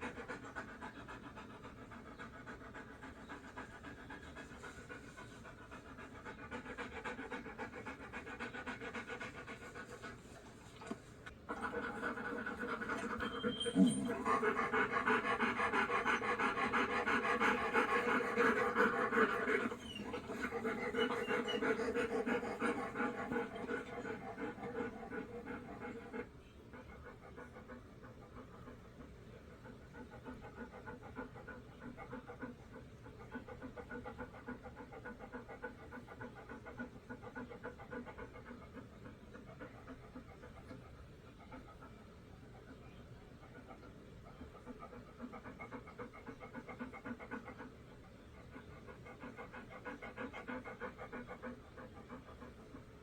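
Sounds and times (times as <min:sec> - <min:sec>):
dog panting: 0:00.0 - 0:53.0.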